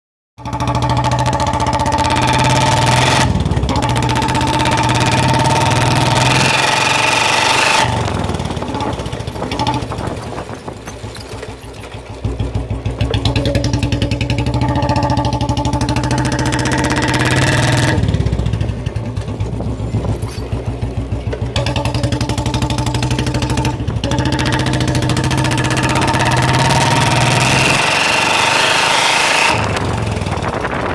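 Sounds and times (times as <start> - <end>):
motorcycle engine running: 0.4 - 30.9.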